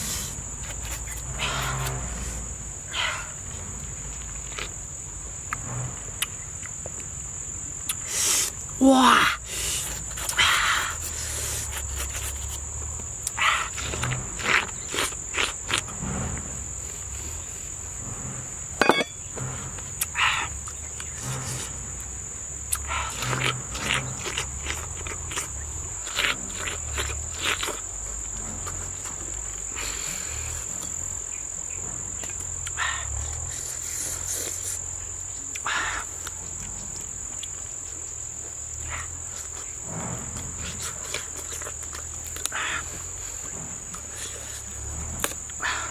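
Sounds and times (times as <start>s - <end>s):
man chewing pineapple: 0.0s - 8.8s, 9.4s - 18.0s, 19.7s - 45.9s
crickets chirping: 0.0s - 45.9s.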